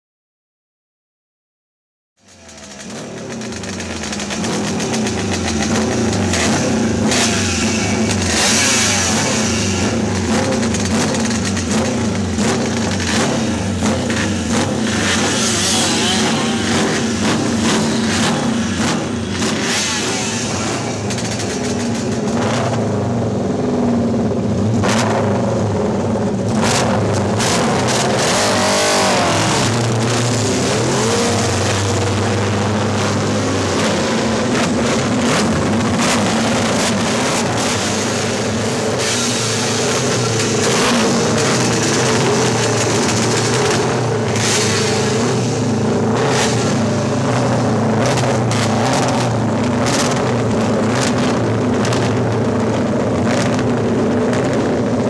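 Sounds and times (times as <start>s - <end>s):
motorcycle engines revving: 2.2s - 55.0s.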